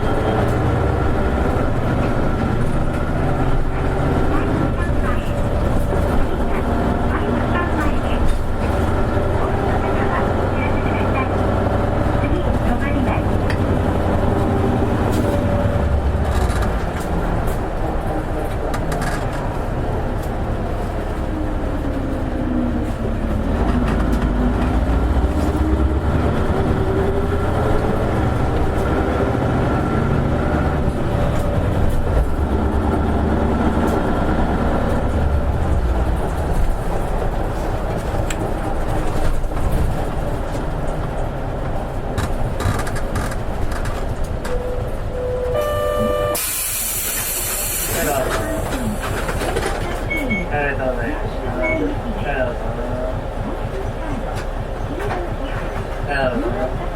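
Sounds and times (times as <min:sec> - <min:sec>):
bus diesel engine humming: 0:00.0 - 0:56.9.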